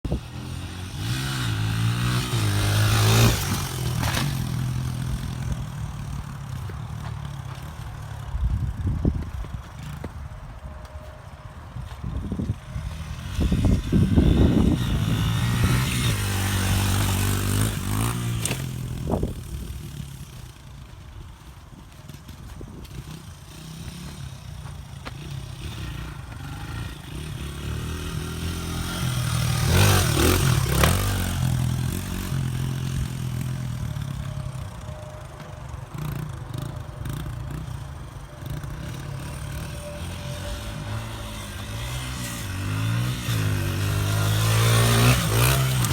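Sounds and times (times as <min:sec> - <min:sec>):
pit bike engine revving: 0:00.1 - 0:10.1, 0:12.2 - 0:45.9.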